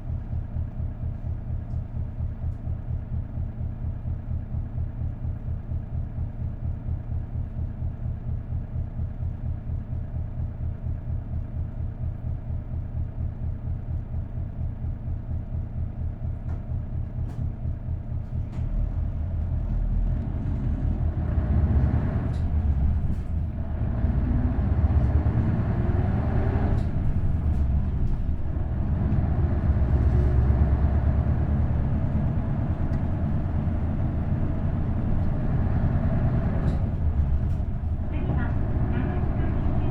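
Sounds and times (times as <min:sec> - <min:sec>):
diesel bus engine idling and revving: 0:00.0 - 0:39.9.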